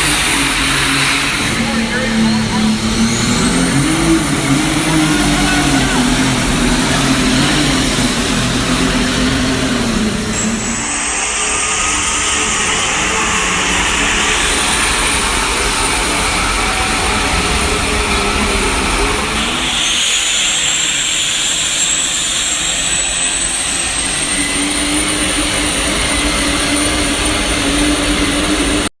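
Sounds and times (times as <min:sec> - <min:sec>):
diesel truck engine running hard: 0:00.0 - 0:28.9
high whine: 0:00.0 - 0:28.9.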